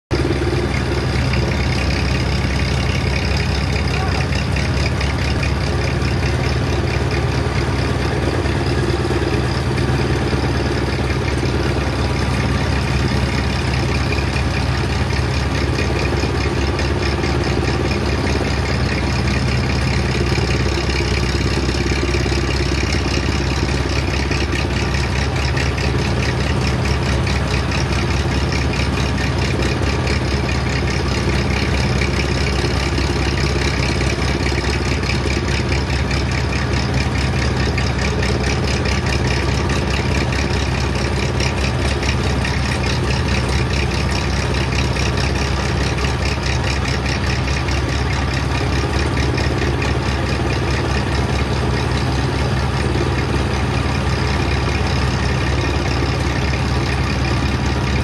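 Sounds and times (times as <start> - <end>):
tractor engine with crop cutter: 0.1 - 58.0.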